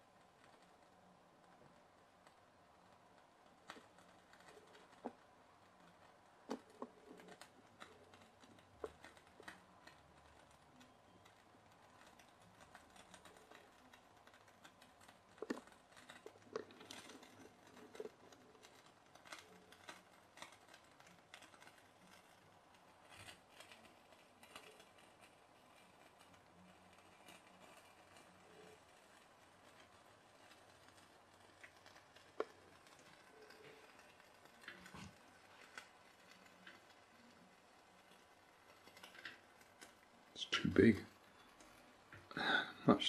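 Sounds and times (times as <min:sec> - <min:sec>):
faint irregular clicks: 0:00.0 - 0:43.0.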